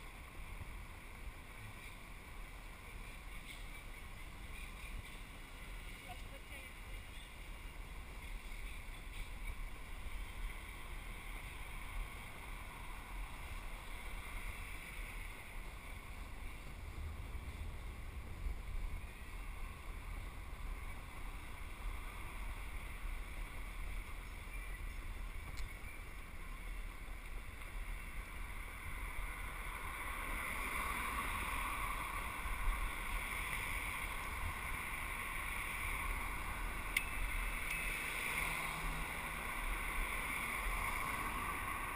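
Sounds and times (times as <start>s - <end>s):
wind rumbling on microphone: 0.0s - 41.9s.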